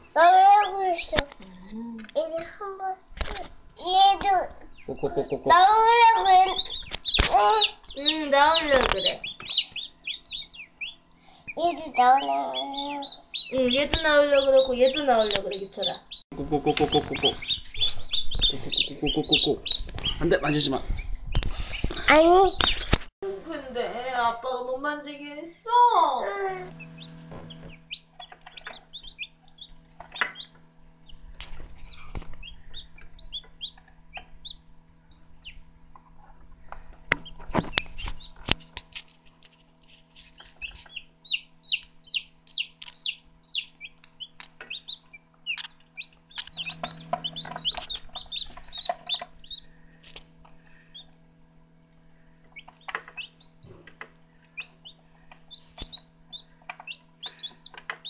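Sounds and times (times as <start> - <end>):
chicks peeping: 0.0 - 1.6, 2.2 - 23.1, 25.1 - 58.0
steady low hum: 0.0 - 58.0.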